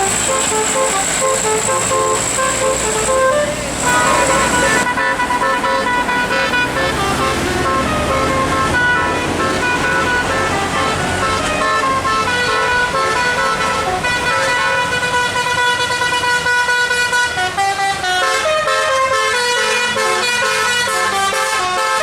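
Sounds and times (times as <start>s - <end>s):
musical air horn playing a tune: 0.0s - 22.0s.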